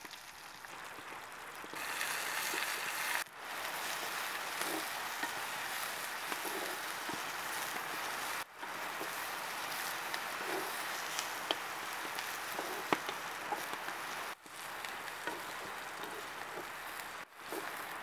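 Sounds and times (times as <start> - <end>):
onions sizzling in hot oil: 0.0 - 18.0
wooden spoon scraping clay pot: 1.7 - 18.0.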